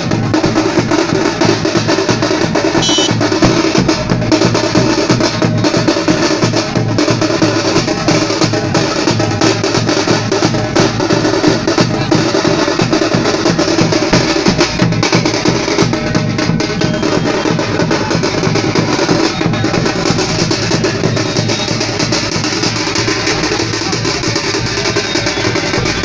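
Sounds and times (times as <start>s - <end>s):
loud music with fast drumming: 0.0s - 26.0s.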